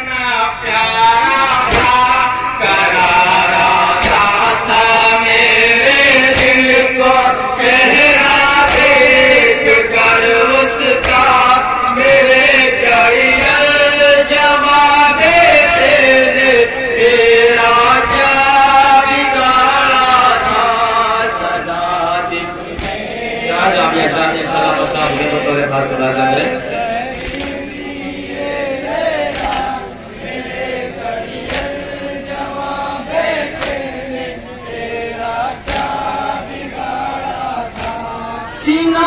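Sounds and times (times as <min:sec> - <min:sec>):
men chanting a lament: 0:00.0 - 0:39.0.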